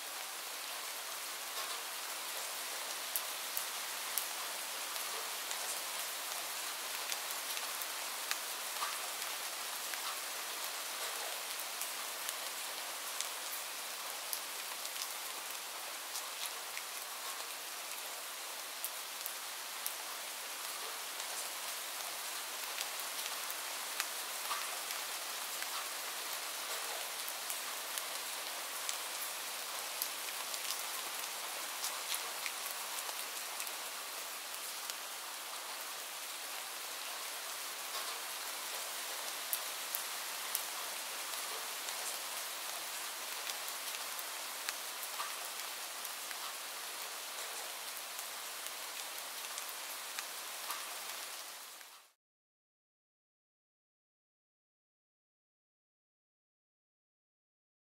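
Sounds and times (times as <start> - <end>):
steady rain hiss: 0.0 - 52.2.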